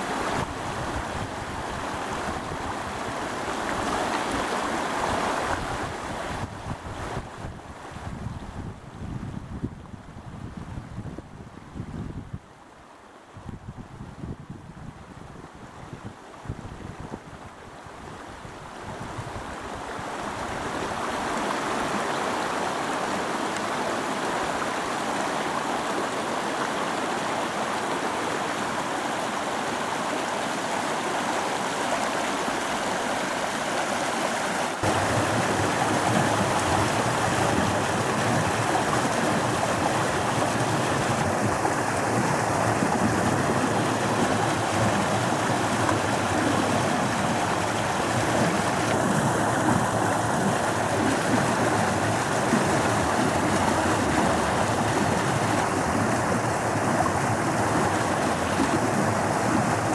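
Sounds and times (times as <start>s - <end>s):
river water rushing over rocks: 0.0s - 8.8s, 15.0s - 59.9s.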